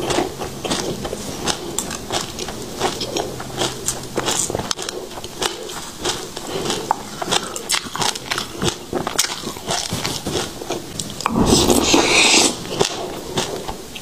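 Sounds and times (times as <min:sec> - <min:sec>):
crunching seeds while chewing: 0:00.0 - 0:14.0.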